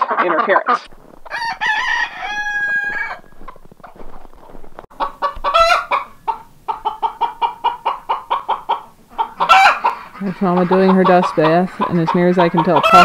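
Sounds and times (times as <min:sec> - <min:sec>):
hen clucking: 0:00.0 - 0:13.0.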